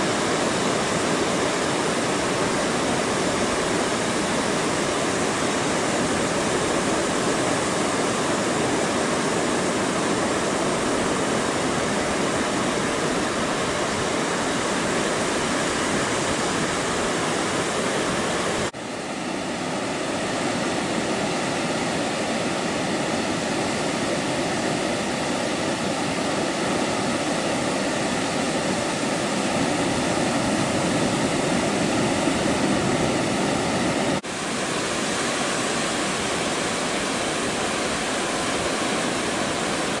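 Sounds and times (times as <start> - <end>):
ocean surf breaking: 0.0 - 40.0.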